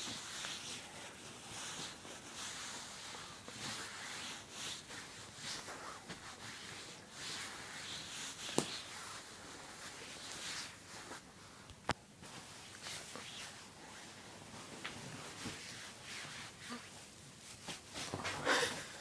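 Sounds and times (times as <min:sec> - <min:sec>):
bedsheet rustling: 0:00.0 - 0:19.0.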